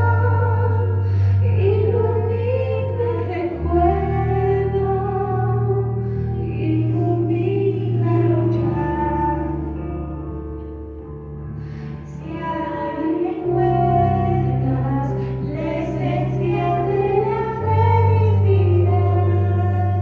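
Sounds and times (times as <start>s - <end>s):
sustained low accompaniment: 0.0s - 20.0s.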